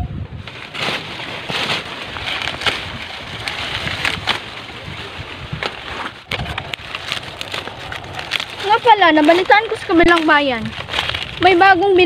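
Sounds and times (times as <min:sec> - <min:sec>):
dry corn stalks rustling and crackling: 0:00.3 - 0:12.0.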